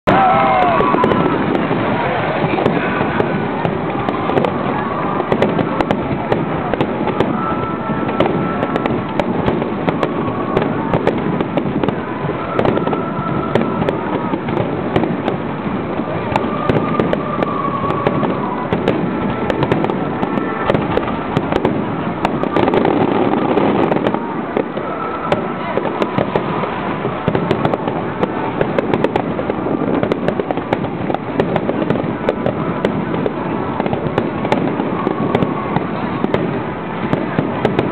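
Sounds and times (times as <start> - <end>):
fireworks bursts and crackling pops: 0.0 - 37.9.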